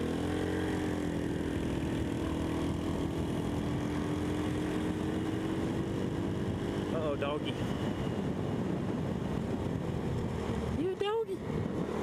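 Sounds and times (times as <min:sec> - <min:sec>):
scooter engine running: 0:00.0 - 0:12.0
wind rush on microphone: 0:00.9 - 0:12.0.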